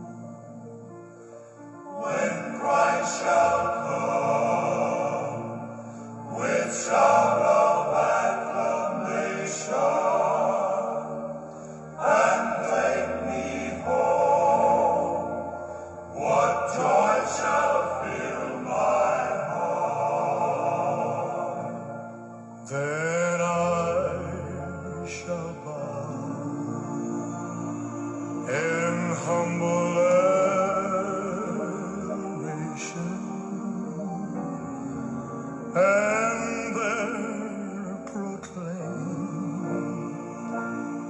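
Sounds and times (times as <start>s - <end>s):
slow music with singing voices: 0.0s - 41.0s.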